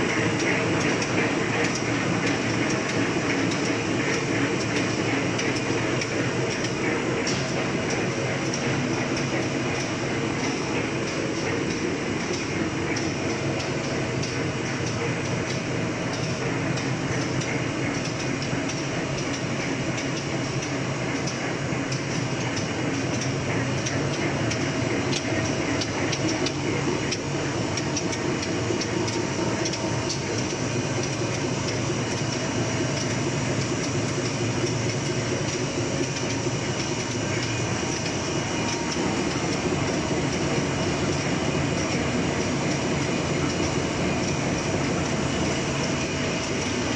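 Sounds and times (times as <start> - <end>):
machine rattling with fine ticks: 0.0 - 46.9.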